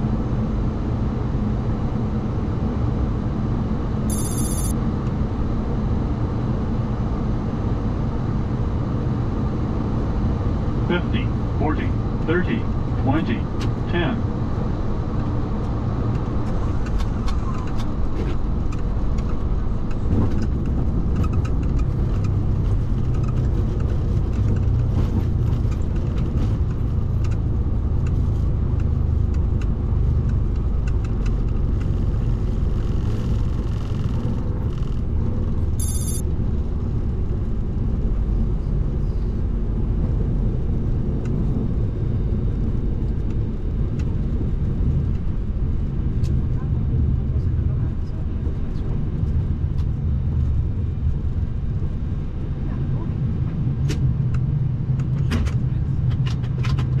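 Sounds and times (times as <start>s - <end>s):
aircraft engines and wheels rumbling: 0.0s - 57.0s.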